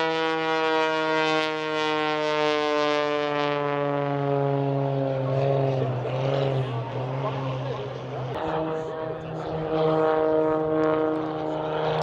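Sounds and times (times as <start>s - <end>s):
aircraft engine drone passing: 0.0s - 12.0s.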